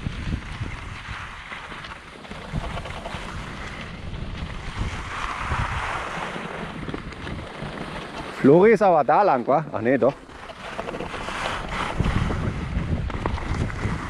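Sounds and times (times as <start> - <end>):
skis scraping over snow: 0.0 - 14.0
wind buffeting microphone: 0.0 - 14.0.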